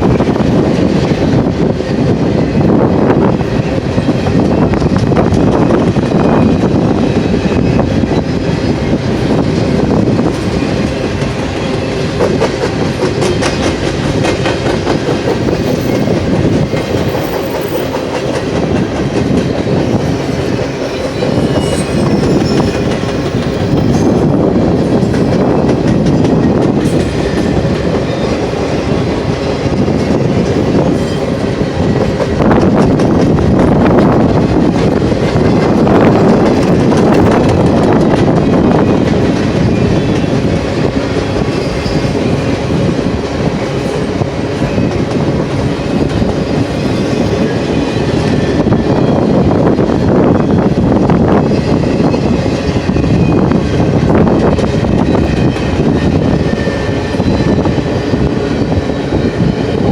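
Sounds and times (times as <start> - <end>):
freight train wheels clicking: 0.0 - 59.9
wind buffeting microphone: 0.0 - 59.9.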